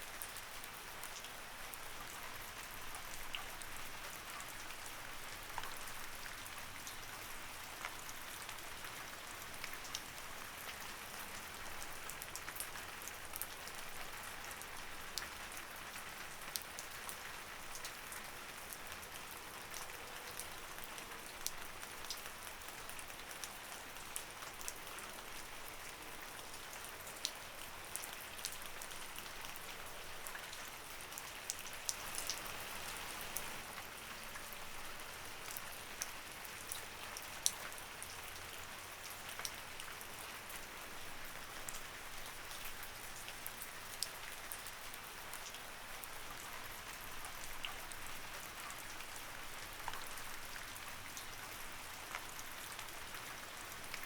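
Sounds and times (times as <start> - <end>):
light rain hiss: 0.0 - 54.0
raindrops ticking on a surface: 0.1 - 54.0.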